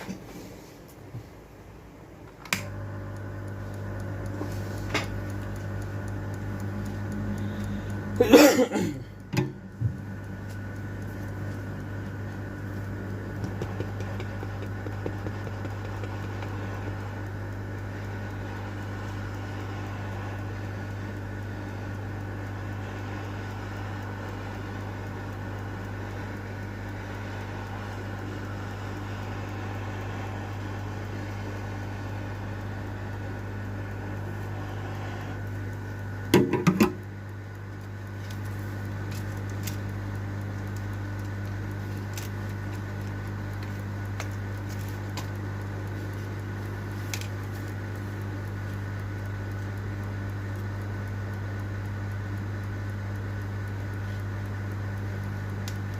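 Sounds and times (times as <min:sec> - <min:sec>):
electrical hum: 0:00.0 - 0:55.9
sharp clicks: 0:02.2 - 0:08.2, 0:09.0 - 0:55.9
light ticks: 0:02.2 - 0:55.9.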